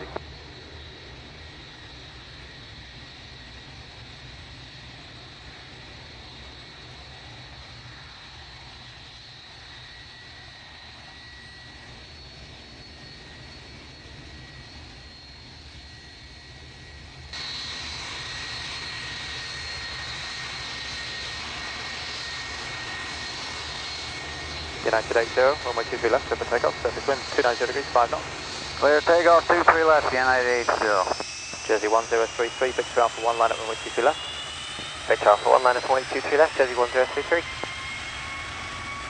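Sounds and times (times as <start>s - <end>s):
jet engines whining: 0.0s - 39.0s.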